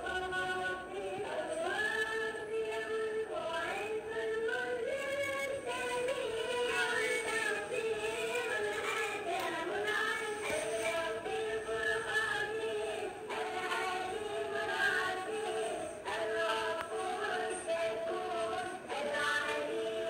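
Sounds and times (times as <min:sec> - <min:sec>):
person singing slow melody: 0:00.0 - 0:20.0.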